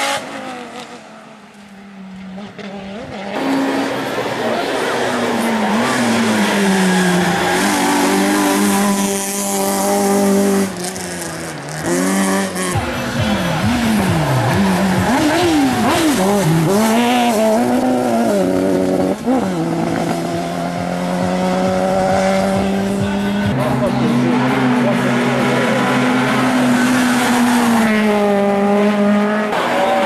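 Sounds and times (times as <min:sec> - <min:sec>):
race car engine at high revs: 0:00.0 - 0:30.0.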